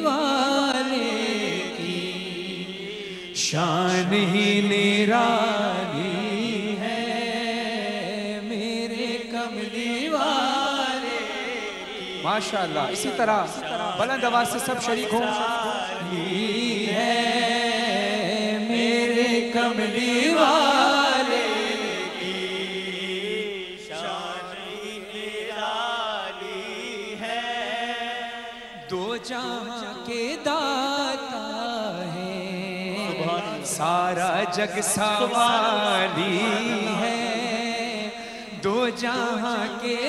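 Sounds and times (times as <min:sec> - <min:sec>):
man singing devotional song: 0:00.0 - 0:40.0.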